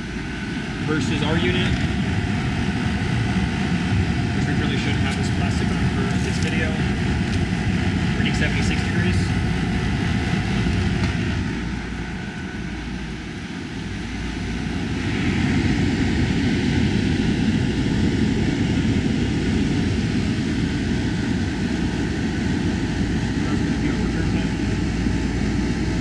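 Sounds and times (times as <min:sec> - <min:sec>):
air conditioner blowers humming: 0:00.0 - 0:26.0.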